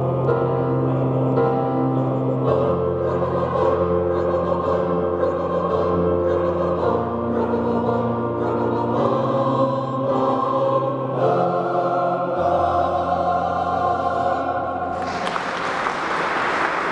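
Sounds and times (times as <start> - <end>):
mixed choir singing: 0.0 - 16.9.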